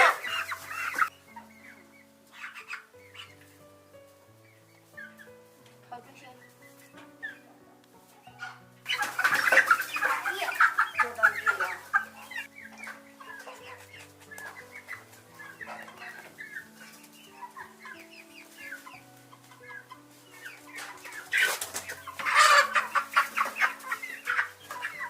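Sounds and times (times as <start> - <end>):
chicks peeping and clucking: 0.0 - 25.0.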